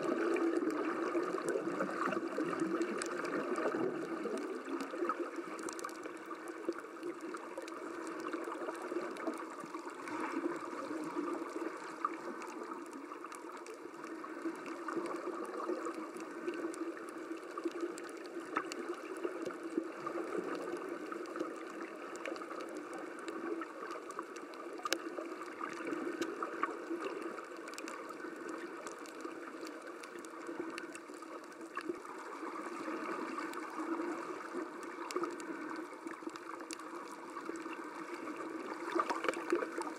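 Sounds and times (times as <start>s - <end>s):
muffled underwater sloshing: 0.0s - 39.9s
faint clicks: 0.3s - 39.9s.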